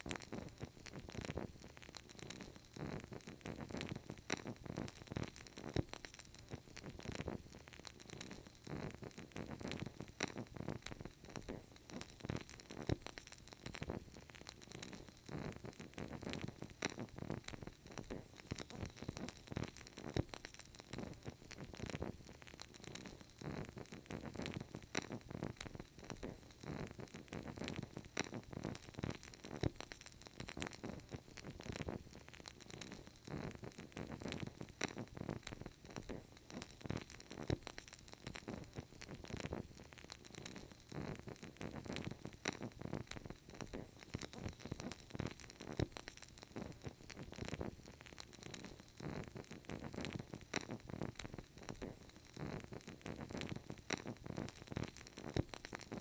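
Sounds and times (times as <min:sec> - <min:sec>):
candle flame crackling: 0:00.0 - 0:56.0.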